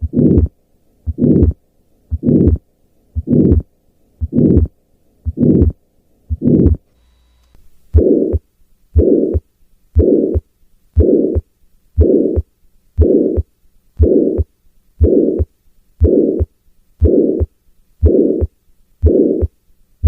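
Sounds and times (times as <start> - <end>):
heartbeat with harsh murmur: 0.0 - 2.6, 3.2 - 6.9, 8.0 - 8.4, 9.0 - 19.6.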